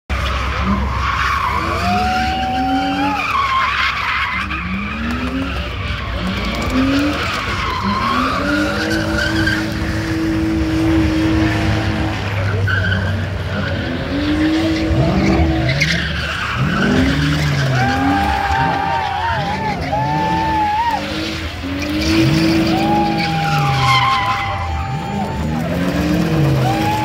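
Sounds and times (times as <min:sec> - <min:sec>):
car engine revving: 0:00.1 - 0:27.0
tyres squealing on pavement: 0:00.1 - 0:27.0.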